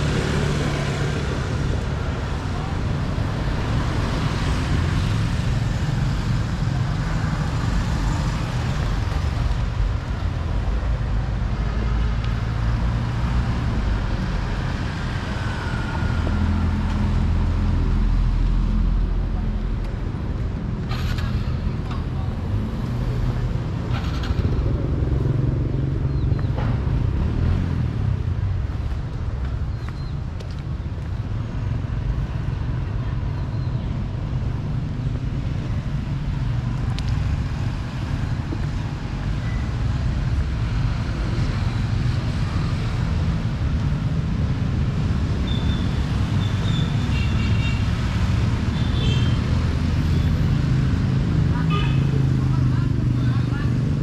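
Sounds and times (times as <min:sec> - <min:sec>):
traffic rumble: 0:00.0 - 0:54.0.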